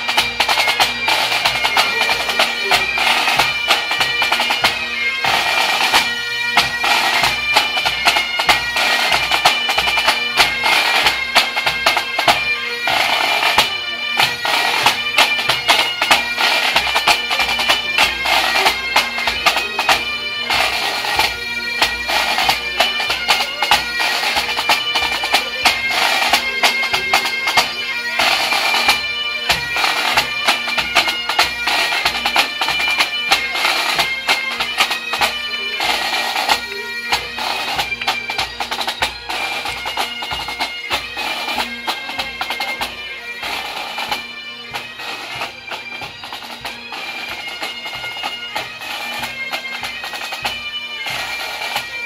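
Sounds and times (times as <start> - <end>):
bagpipes playing a tune: 0.0 - 52.0
drums beating time: 0.0 - 52.0.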